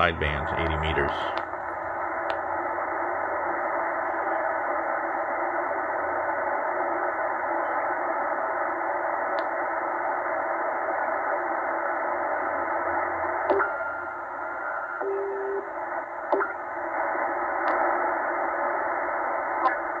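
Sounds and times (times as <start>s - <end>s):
shortwave radio static hiss: 0.0s - 20.0s.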